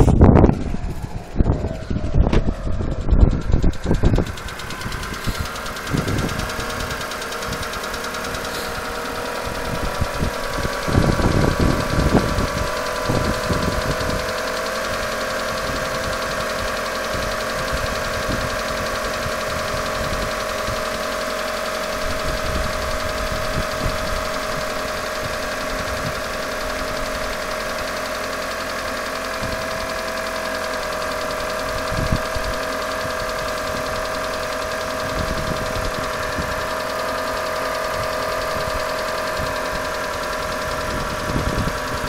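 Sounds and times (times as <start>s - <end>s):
car engine running: 0.0s - 42.0s
low engine knocks: 0.0s - 42.0s.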